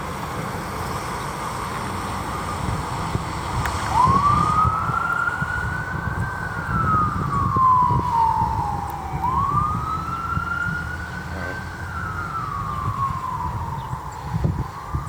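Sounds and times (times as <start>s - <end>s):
emergency siren wailing: 1.9s - 15.0s.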